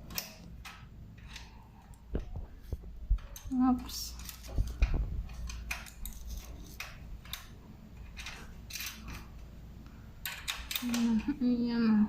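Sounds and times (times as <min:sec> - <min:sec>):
bicycle parts and tools clicking: 0:00.0 - 0:09.5, 0:10.2 - 0:11.3.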